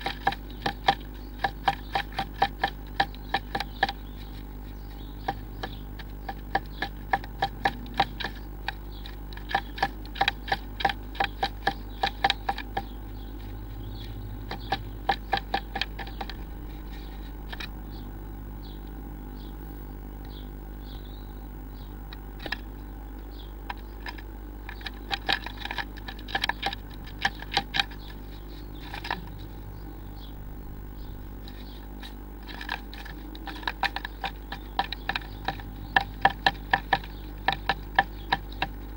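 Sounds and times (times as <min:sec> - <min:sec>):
bird tapping on wood: 0:00.0 - 0:17.7, 0:23.7 - 0:29.5, 0:31.0 - 0:38.9
steady low hum: 0:00.0 - 0:38.9.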